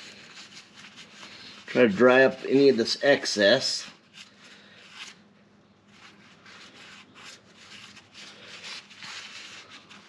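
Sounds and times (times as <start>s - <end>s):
cloth rubbing on oily metal: 0.0s - 5.2s, 5.9s - 10.0s.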